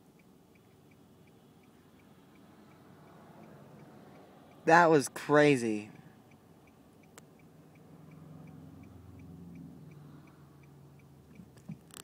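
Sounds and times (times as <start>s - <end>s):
engine and road hum: 0.0s - 12.0s
turn-signal indicator ticking: 0.0s - 12.0s.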